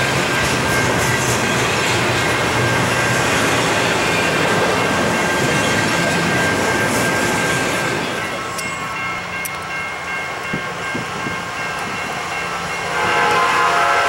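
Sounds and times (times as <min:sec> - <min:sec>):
freight cars rolling on rails: 0:00.0 - 0:14.0.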